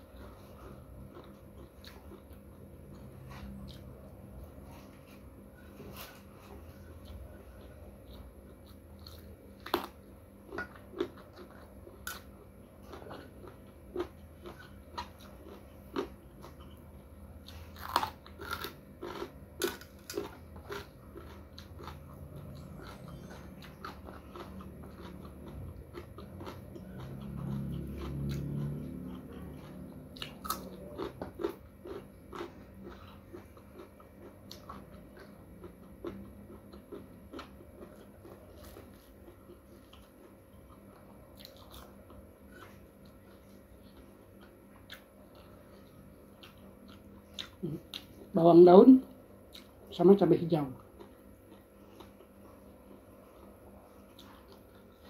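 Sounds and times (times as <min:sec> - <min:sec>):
person crunching raw vegetables: 0:00.0 - 0:48.2.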